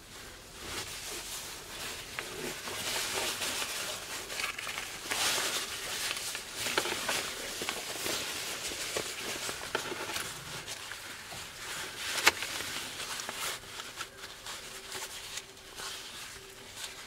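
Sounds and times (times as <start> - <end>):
jacket fabric rustling: 0.0 - 17.0.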